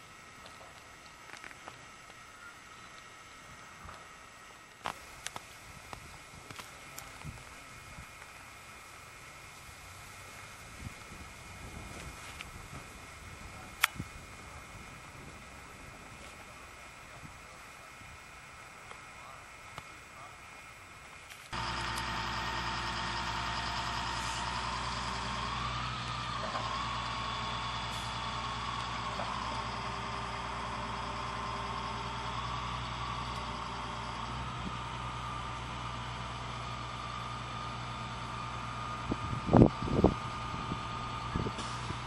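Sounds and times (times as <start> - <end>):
vehicle engine idling: 4.9 - 42.0.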